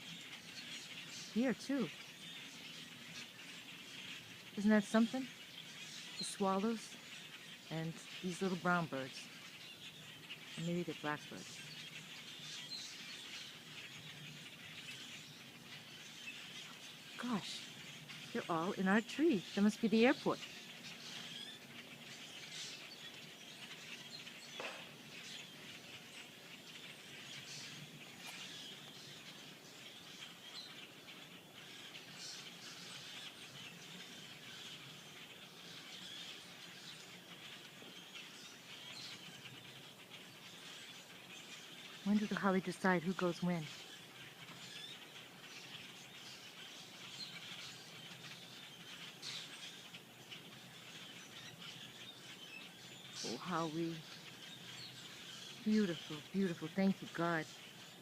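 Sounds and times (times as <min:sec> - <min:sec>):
flock of small birds chirping: 0:00.0 - 0:58.0.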